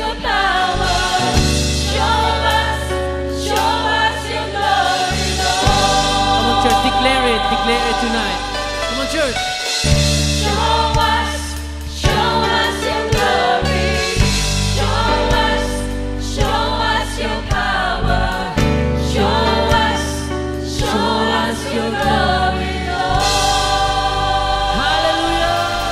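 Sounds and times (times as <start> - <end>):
singers singing together: 0.0 - 25.9
worship band playing: 0.0 - 25.9.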